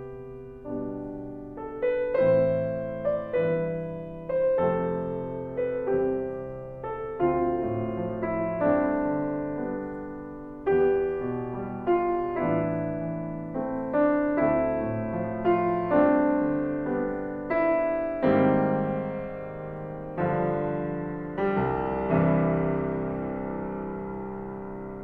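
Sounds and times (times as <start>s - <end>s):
slow gentle piano piece: 0.0s - 25.0s.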